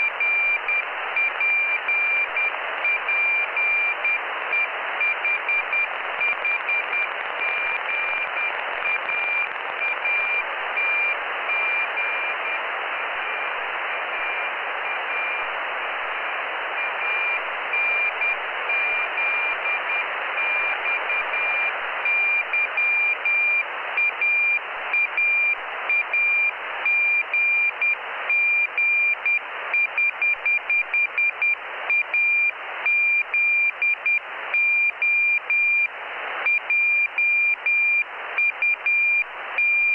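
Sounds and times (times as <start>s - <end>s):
receiver hiss: 0.0s - 39.9s.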